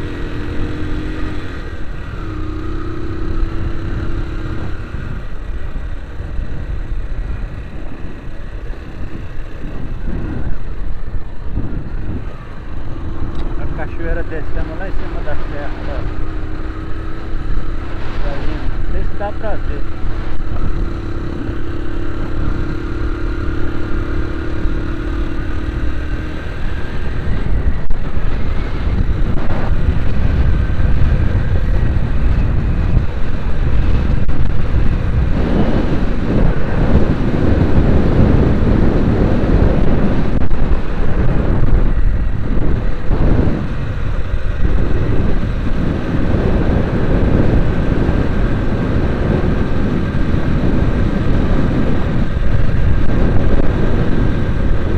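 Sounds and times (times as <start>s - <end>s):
heavy low buffeting: 0.0s - 54.9s
vehicle engine and road rumble: 0.0s - 54.9s.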